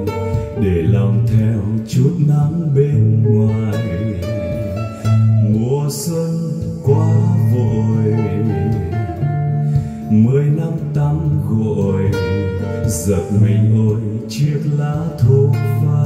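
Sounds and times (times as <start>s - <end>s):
guitar-led song over loudspeakers: 0.0s - 16.0s.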